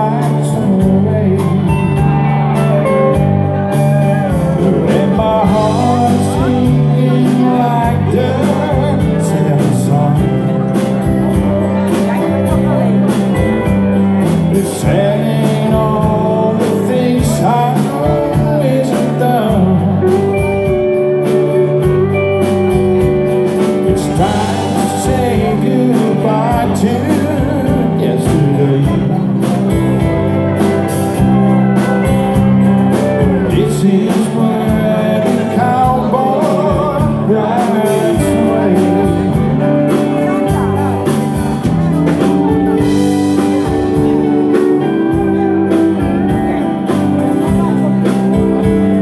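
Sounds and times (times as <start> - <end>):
bass: 0.0 - 49.0
guitar: 0.0 - 49.0
person singing: 0.0 - 49.0
steady drum beat: 0.0 - 49.0.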